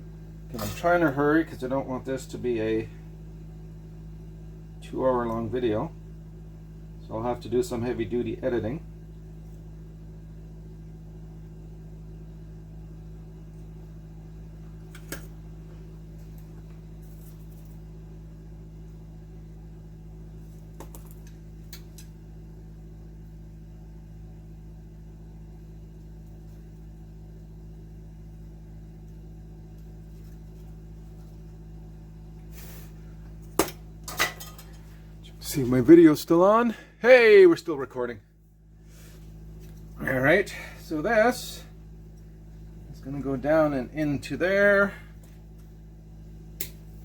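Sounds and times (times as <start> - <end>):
low machine hum: 0.0 - 47.0.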